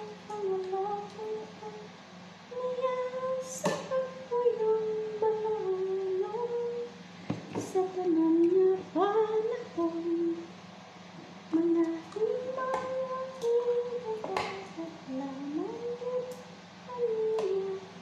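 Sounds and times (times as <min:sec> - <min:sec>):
woman humming a melody: 0:00.0 - 0:01.9, 0:02.5 - 0:07.0, 0:07.6 - 0:10.5, 0:11.5 - 0:18.0
steady low hum: 0:00.0 - 0:18.0.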